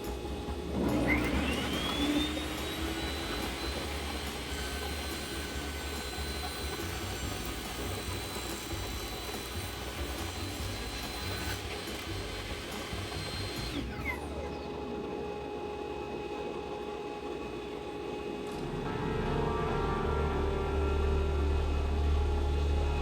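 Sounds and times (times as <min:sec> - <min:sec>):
dust collector humming: 0:00.0 - 0:23.0
table saw motor whine: 0:00.0 - 0:23.0.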